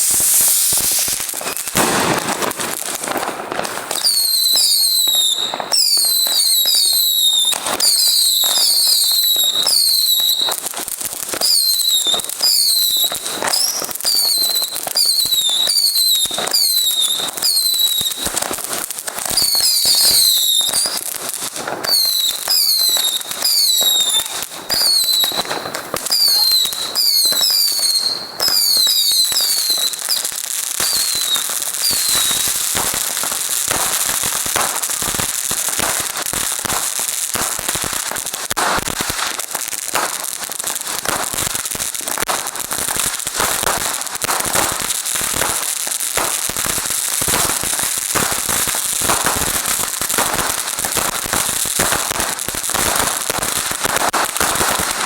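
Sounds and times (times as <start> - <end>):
fireworks crackling pops and bangs: 0.0 - 55.0
fireworks falling whistles: 0.0 - 55.0.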